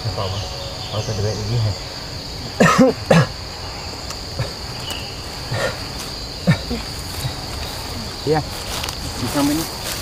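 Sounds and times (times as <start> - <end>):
high-pitched insect chirring: 0.0 - 10.0.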